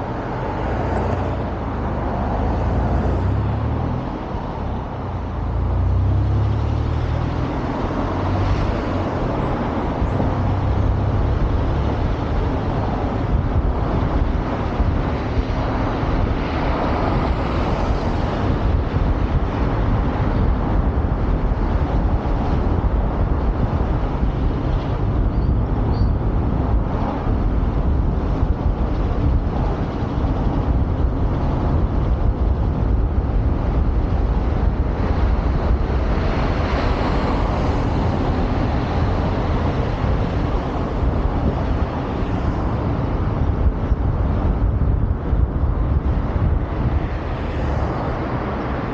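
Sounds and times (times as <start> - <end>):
vehicle road noise: 0.0 - 48.9
wind buffeting microphone: 0.0 - 48.9.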